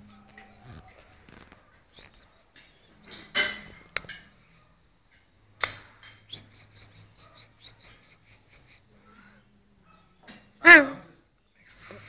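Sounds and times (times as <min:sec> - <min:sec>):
small bird chirping: 0:00.0 - 0:10.3.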